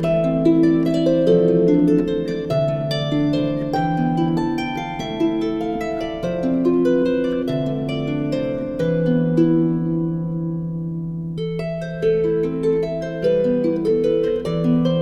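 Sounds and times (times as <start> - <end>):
plucked harp melody: 0.0 - 15.0.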